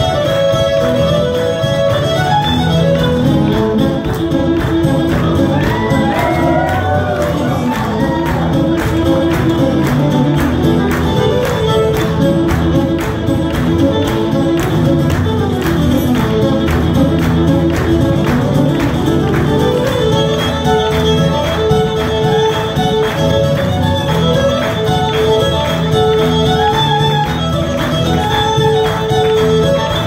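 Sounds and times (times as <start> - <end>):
fiddles playing lively tune: 0.0 - 30.0.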